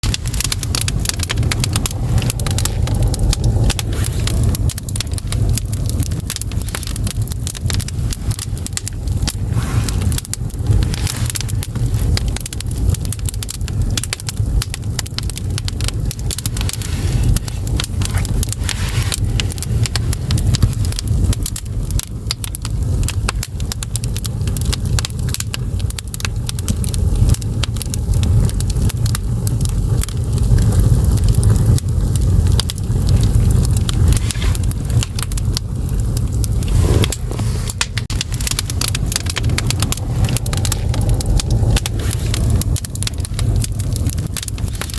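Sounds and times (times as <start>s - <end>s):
firewood crackling and popping: 0.0s - 44.9s
low fire rumble: 0.0s - 44.9s.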